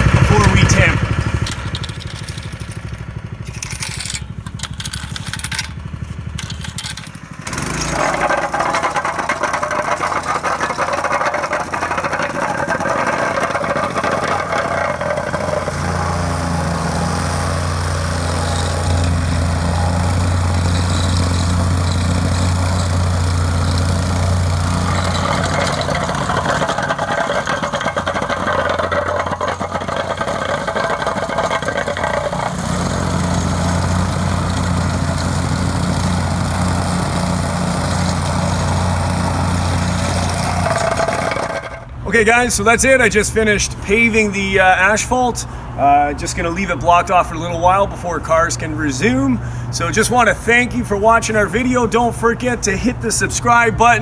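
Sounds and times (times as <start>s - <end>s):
asphalt compactor engine running: 0.0s - 43.0s, 49.0s - 50.7s.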